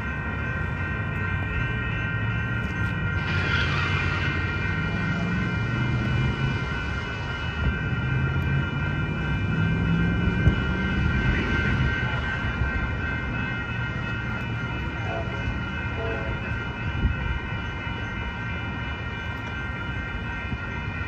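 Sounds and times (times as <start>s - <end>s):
railroad crossing bells ringing: 0.0s - 21.0s.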